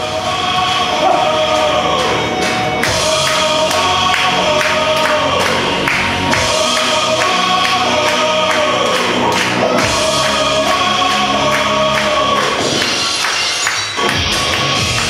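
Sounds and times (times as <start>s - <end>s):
choir-like singing: 0.0s - 15.0s
steady music beat: 0.0s - 15.0s.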